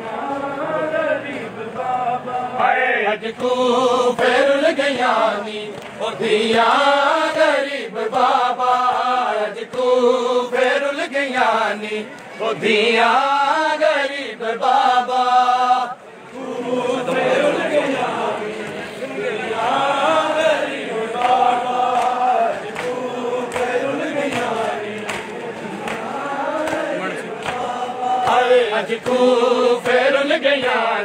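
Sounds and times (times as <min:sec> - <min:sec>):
men chanting in unison: 0:00.0 - 0:31.0.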